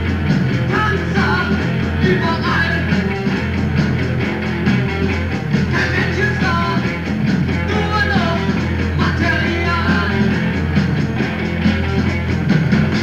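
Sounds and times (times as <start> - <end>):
generator hum: 0.0 - 13.0
punk rock band playing: 0.0 - 13.0.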